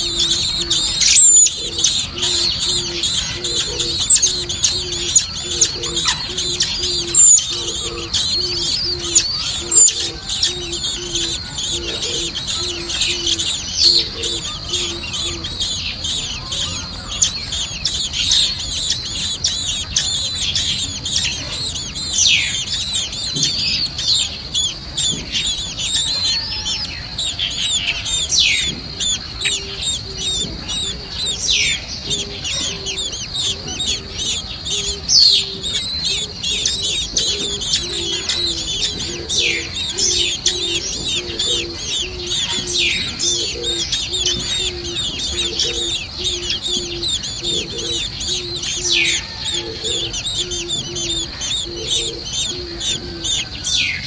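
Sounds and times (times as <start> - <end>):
low hoot: 0.0 - 54.0
nestlings chirping: 0.0 - 54.0.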